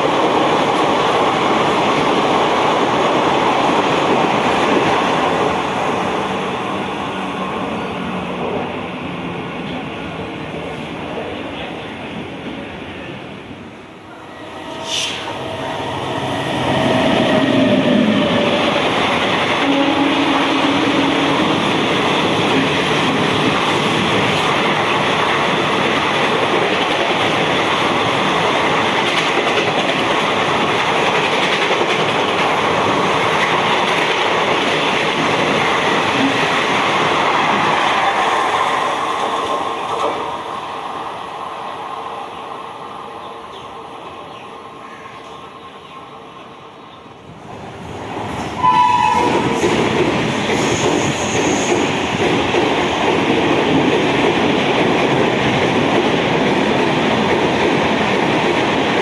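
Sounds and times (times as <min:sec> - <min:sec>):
train passing at speed: 0:00.0 - 0:59.0.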